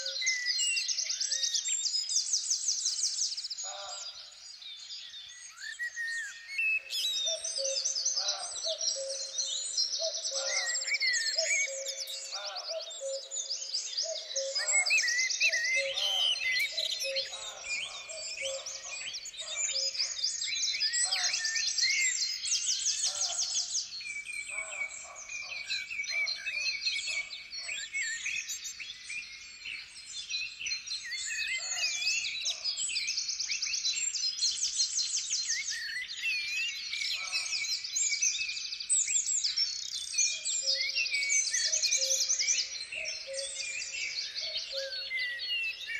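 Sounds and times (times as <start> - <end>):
songbirds chorus: 0.0 - 45.9.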